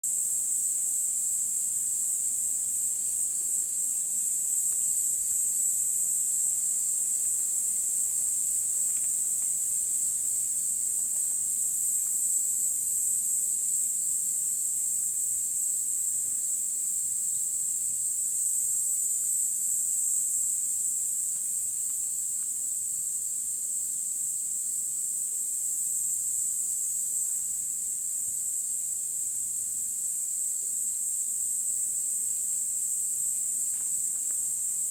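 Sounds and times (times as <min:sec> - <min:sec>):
high-pitched insects trilling: 0:00.1 - 0:34.9.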